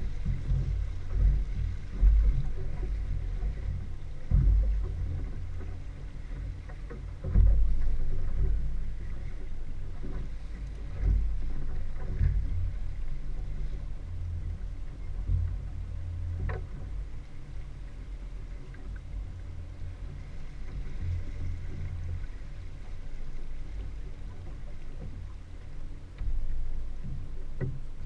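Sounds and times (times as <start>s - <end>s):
outboard motor running: 0.0s - 28.0s
water wash: 0.0s - 28.0s.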